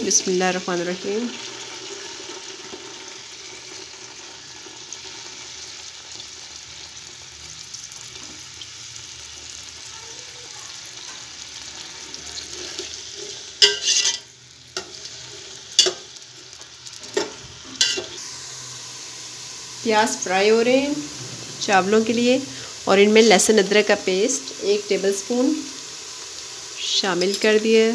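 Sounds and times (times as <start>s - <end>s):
onions sizzling in oil: 0.0s - 27.9s.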